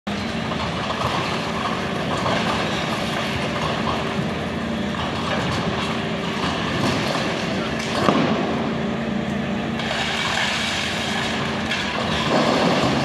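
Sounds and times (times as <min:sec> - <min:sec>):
excavator engine running: 0:00.1 - 0:13.0.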